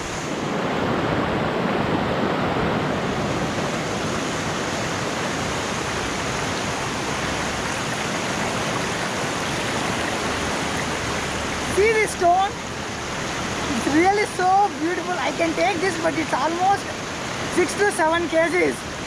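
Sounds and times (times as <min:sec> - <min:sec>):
river rushing over rapids: 0:00.0 - 0:19.0.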